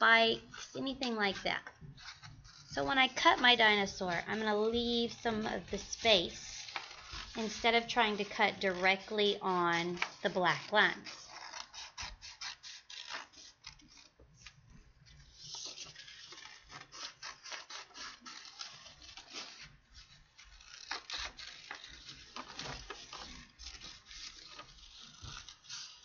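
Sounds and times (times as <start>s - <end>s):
scissors snipping paper: 0.3s - 14.6s, 15.2s - 26.0s
paper rustling: 0.6s - 26.0s.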